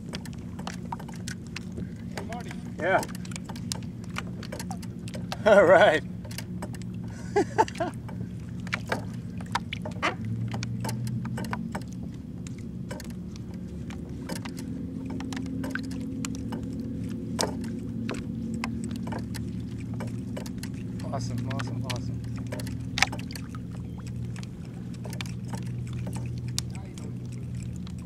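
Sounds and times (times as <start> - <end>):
small waves slapping a kayak hull: 0.0 - 28.0
steady low hum: 0.0 - 28.0.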